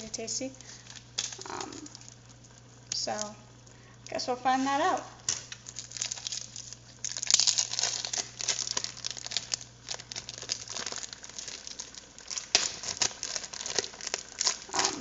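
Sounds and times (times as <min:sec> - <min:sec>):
plastic packaging crinkling: 0:00.0 - 0:03.3, 0:05.3 - 0:15.0
faint low hum: 0:00.0 - 0:15.0.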